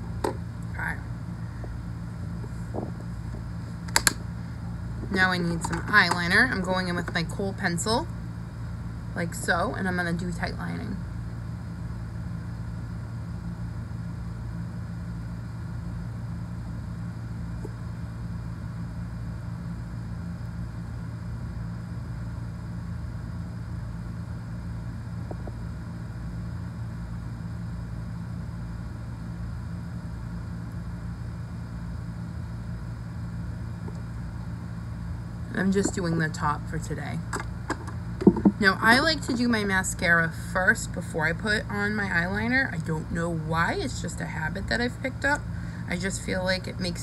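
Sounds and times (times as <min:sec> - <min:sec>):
steady low mechanical hum: 0:00.0 - 0:47.0.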